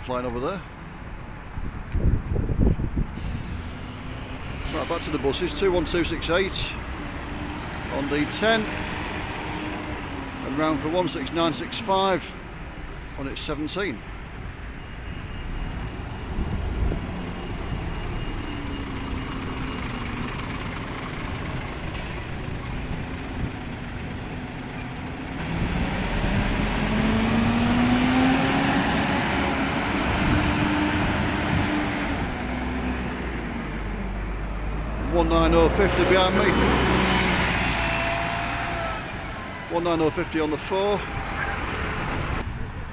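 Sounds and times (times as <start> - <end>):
bus engines passing: 0.0 - 42.9.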